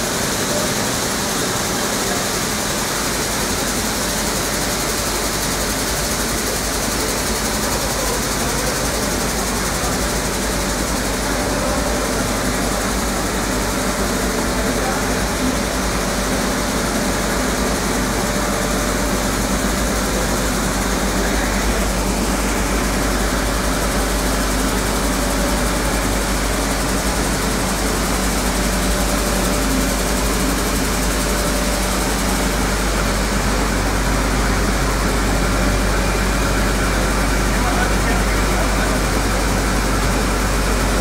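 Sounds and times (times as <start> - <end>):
flour mill machinery droning: 0.0 - 41.0.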